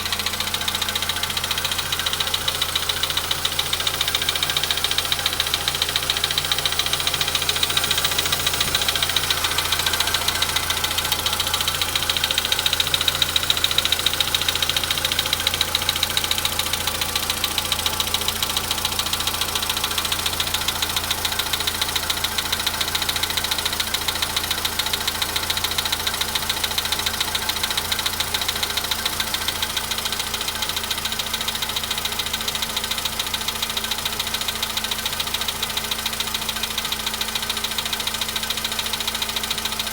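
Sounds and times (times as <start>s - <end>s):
car engine idling: 0.0s - 39.9s
rapid engine knocking: 0.0s - 39.9s.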